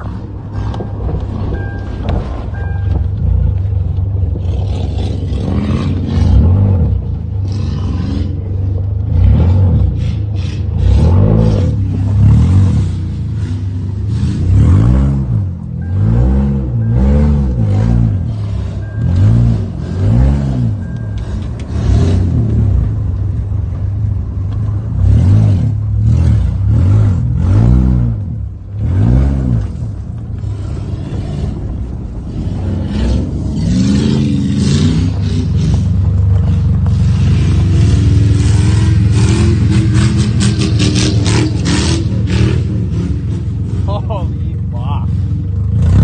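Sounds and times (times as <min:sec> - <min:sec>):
truck engine revving: 0:00.0 - 0:46.0.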